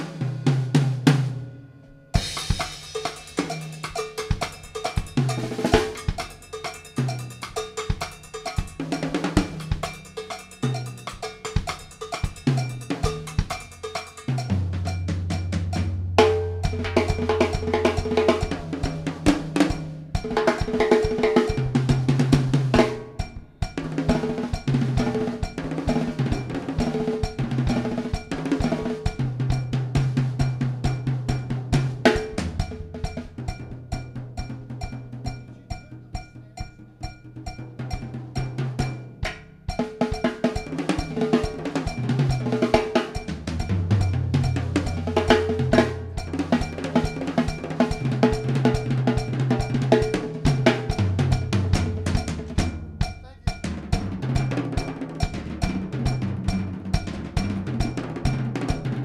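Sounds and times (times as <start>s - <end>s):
cowbell: 0.0s - 59.0s
drum kit groove: 0.0s - 59.0s.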